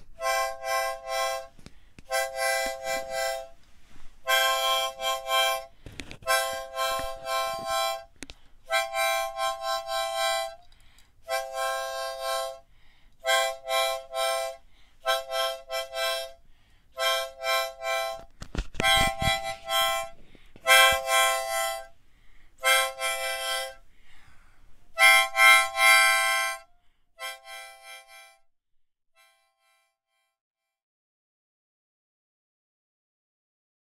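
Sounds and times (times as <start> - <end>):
harmonica playing chords: 0.0 - 28.5, 29.1 - 30.3.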